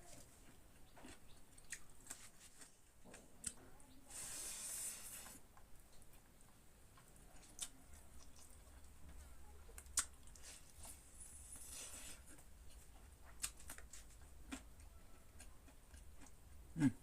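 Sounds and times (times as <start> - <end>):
chewing and mouth noises: 0.1 - 3.7, 4.7 - 17.0.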